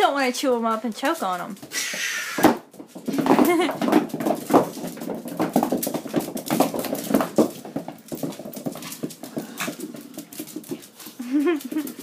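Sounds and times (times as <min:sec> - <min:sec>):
dog claws clicking on floor: 0:00.0 - 0:12.0.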